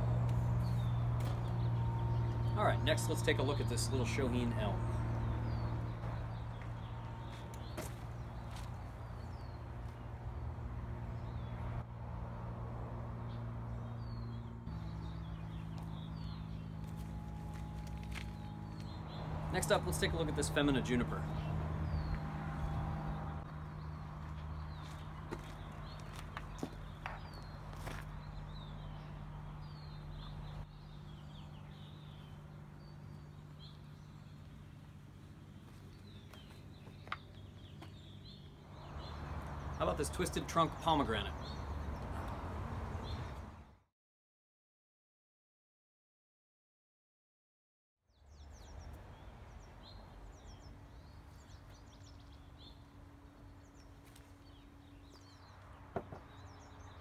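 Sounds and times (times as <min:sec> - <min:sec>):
small birds chirping: 0:00.0 - 0:11.8, 0:13.2 - 0:43.6, 0:48.1 - 0:57.0.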